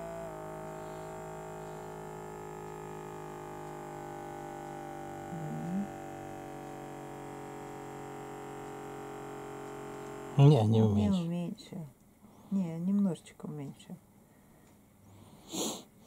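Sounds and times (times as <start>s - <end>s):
small electric air pump humming: 0.0s - 11.3s, 14.4s - 16.0s.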